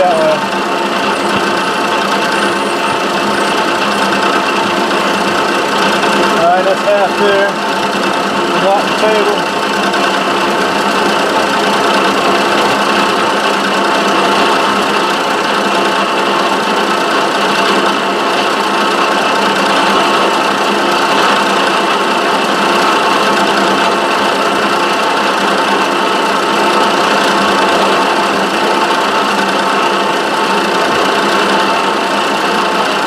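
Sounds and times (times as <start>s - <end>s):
milling machine cutting: 0.0s - 33.0s.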